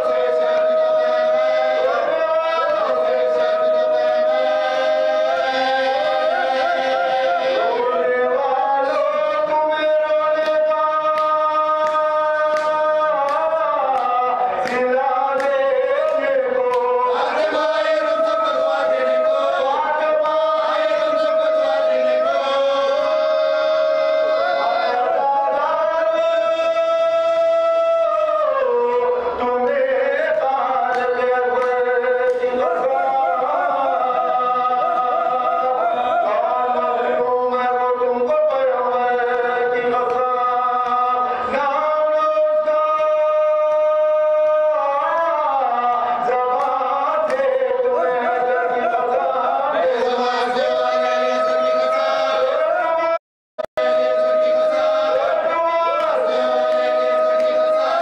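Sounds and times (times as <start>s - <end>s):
men chanting unaccompanied: 0.0s - 58.0s.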